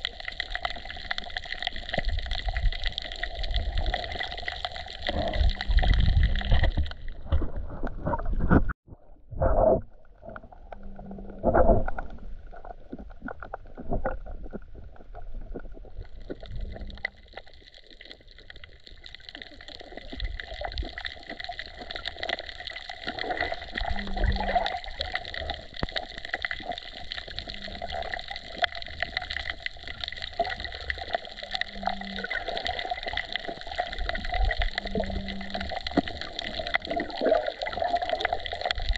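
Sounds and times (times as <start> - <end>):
fine crackle underwater: 0.0 - 38.9
muffled underwater sloshing: 0.0 - 38.9.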